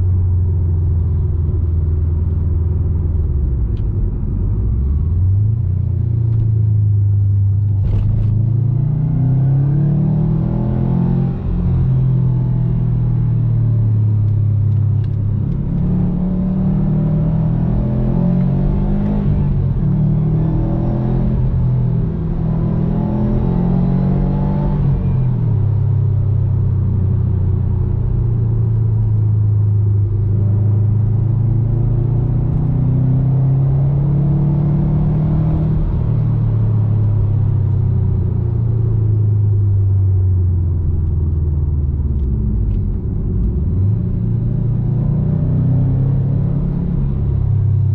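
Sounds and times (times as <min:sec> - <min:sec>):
car exhaust rumble accelerating: 0:00.0 - 0:47.9.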